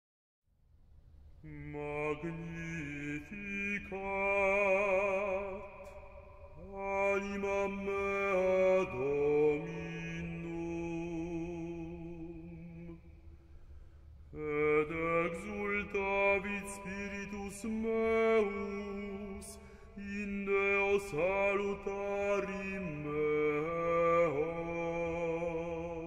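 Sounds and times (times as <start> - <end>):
slow sung chant: 1.4 - 13.3, 14.3 - 26.0.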